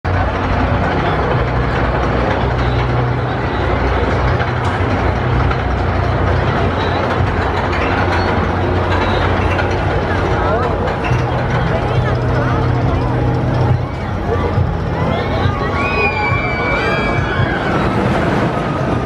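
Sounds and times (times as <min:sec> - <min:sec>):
roller coaster rumbling on track: 0:00.0 - 0:19.0
low machinery hum: 0:00.1 - 0:19.0.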